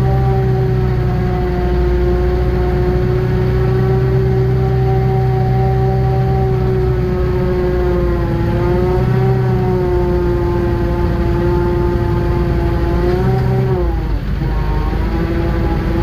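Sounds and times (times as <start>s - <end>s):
small engine revving high: 0.0s - 16.0s.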